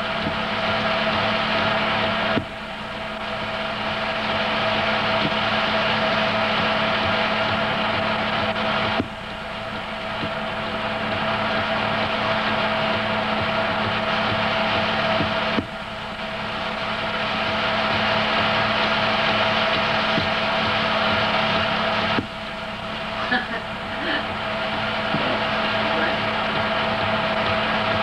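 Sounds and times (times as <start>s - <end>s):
film projector whirring: 0.0s - 28.0s.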